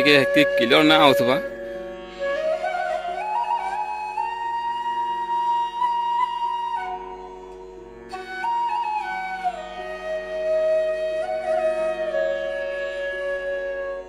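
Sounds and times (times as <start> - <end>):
flute melody: 0.0 - 14.0.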